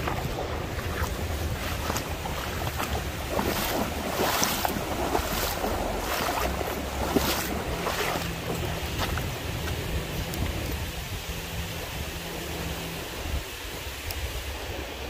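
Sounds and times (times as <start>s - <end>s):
water rushing over a spillway: 0.0s - 15.0s
wind buffeting the microphone: 0.0s - 15.0s.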